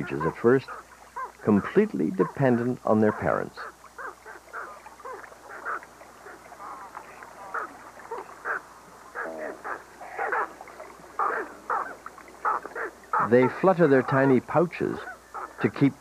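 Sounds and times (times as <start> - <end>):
pelican chicks calling: 0.0 - 16.0.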